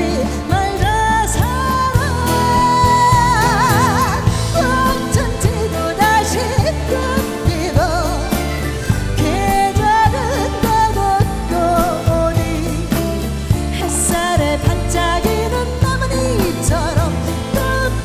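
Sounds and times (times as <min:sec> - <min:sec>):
band accompaniment: 0:00.0 - 0:18.0
person singing with vibrato: 0:00.0 - 0:18.0
steady drum beat: 0:00.0 - 0:18.0.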